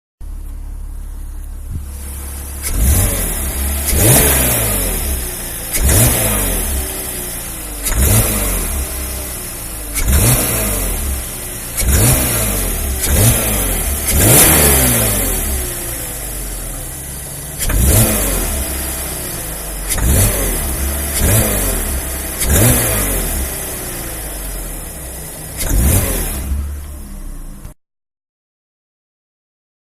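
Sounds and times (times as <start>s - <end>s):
engine clattering: 0.2s - 27.7s
car engine idling and revving: 0.2s - 27.8s.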